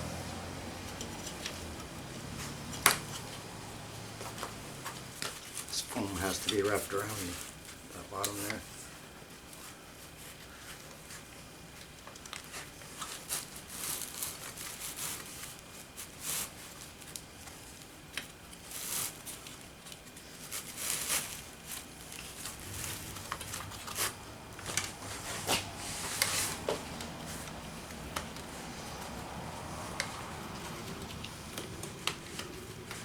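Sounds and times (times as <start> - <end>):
foam and fabric rustling: 0.0 - 33.0.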